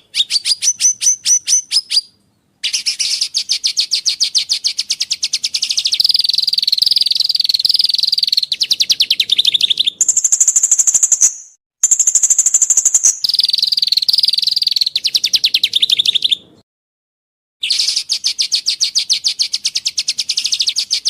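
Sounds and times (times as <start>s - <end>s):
songbird chirping: 0.0s - 16.6s, 17.6s - 21.0s.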